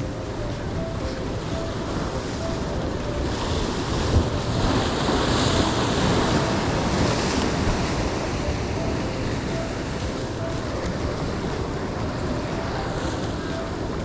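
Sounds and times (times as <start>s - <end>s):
waves washing on shore: 0.0s - 14.0s
wind buffeting microphone: 0.0s - 14.0s.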